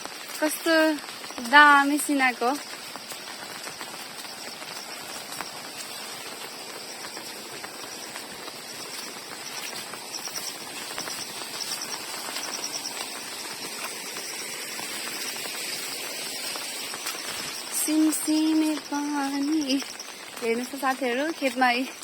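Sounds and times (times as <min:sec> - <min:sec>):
light drizzle hissing: 0:00.0 - 0:22.0.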